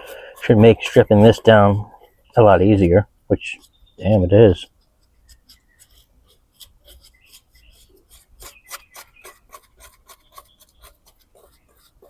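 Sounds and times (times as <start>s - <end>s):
stiff brush scrubbing wheel rim: 0.0s - 12.0s.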